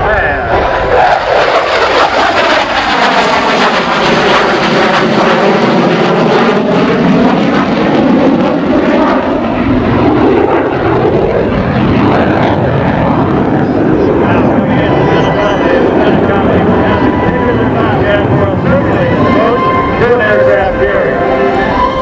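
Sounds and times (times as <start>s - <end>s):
jet engines roaring in flyby: 0.0s - 22.0s.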